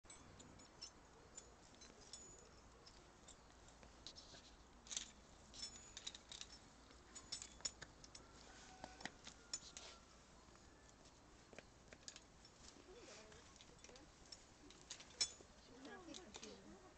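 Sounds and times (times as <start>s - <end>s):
climbing gear clinking: 0.0s - 10.0s, 10.9s - 16.9s.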